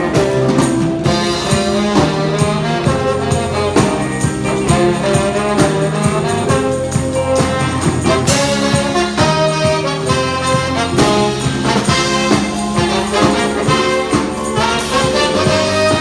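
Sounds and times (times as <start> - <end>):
brass section playing: 0.0 - 16.0
steady beat: 0.0 - 16.0.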